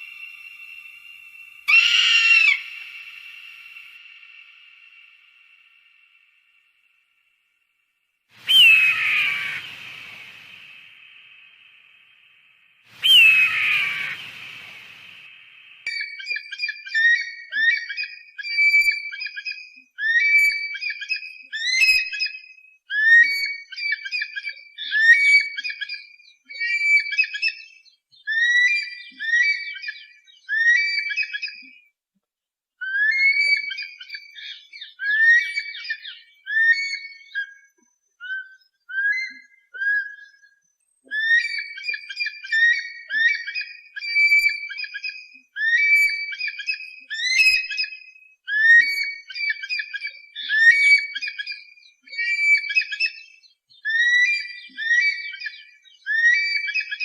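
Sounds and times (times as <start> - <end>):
bird of prey whistled calls: 0.0 - 4.0, 8.4 - 11.1, 12.9 - 31.8, 32.8 - 57.0.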